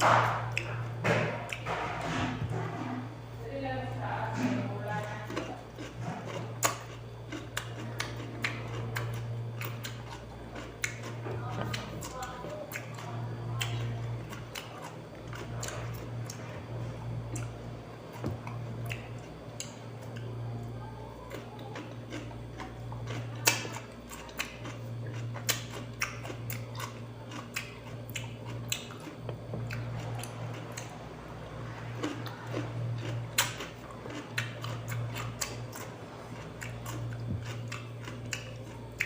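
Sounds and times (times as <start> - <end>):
steady low hum: 0.0 - 39.0
crunching cucumber: 4.6 - 31.0, 31.7 - 39.0.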